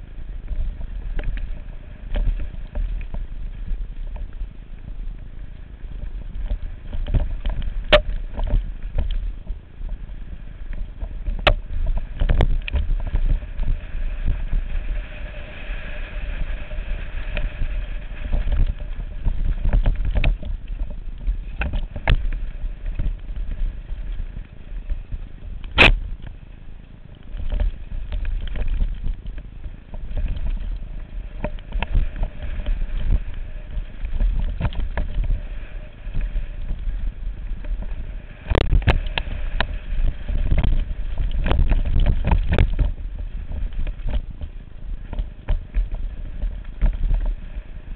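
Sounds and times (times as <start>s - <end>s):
bike rattling and knocking: 0.0s - 25.2s, 27.2s - 47.9s
mountain bike rumbling: 0.0s - 47.9s.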